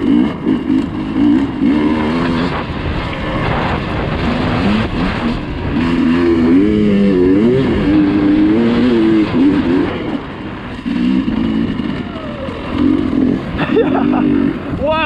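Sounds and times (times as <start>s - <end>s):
dirt bike engine revving: 0.0s - 15.0s
wind: 0.0s - 15.0s.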